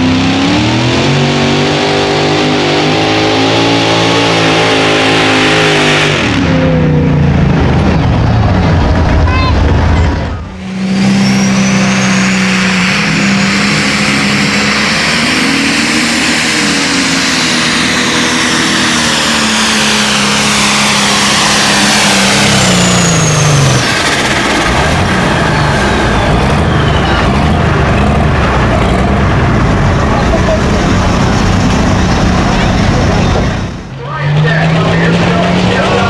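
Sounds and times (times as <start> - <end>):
tractor engine running flat out: 6.0 - 36.0.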